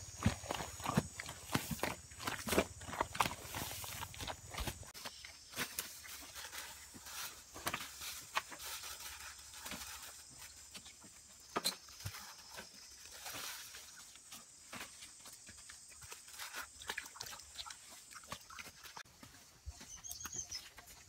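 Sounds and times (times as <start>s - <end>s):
soil being scooped: 0.0s - 11.0s, 11.9s - 19.0s.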